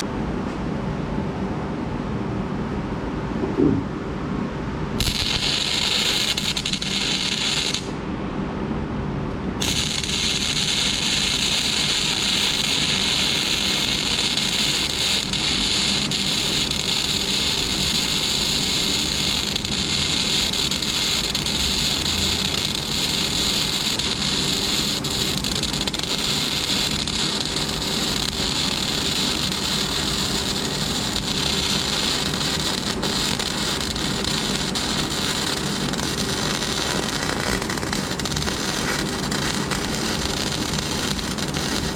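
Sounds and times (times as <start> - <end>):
welding arc crackling: 5.0 - 7.9, 9.6 - 41.9.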